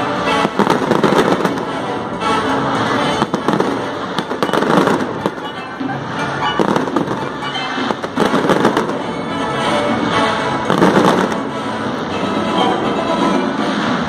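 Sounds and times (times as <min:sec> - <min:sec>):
fireworks crackling and bursting: 0:00.0 - 0:14.0
music playing: 0:00.0 - 0:14.0.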